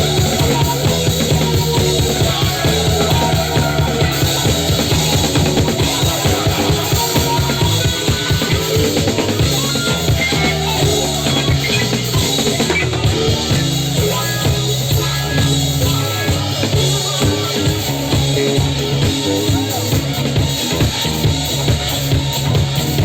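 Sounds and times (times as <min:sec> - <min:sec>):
drum kit beat: 0:00.0 - 0:23.0
live band playing trance: 0:00.0 - 0:23.0.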